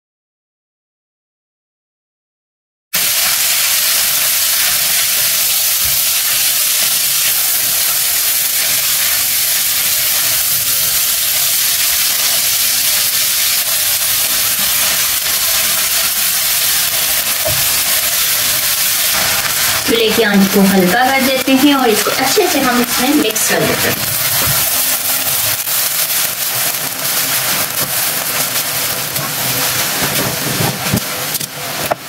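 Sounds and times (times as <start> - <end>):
food sizzling in hot oil: 3.0 - 32.0.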